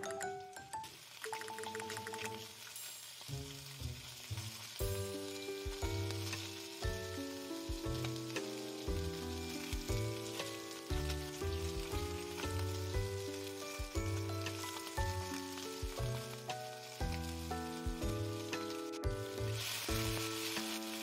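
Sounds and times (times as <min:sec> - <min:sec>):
food sizzling in frying pan: 0:00.0 - 0:21.0
light background music: 0:00.0 - 0:21.0.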